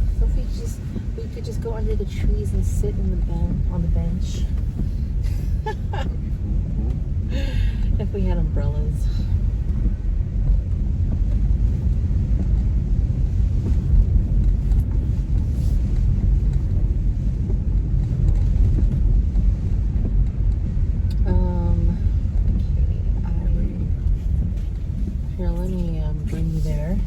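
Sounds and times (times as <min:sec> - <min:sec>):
road and engine rumble: 0:00.0 - 0:27.0.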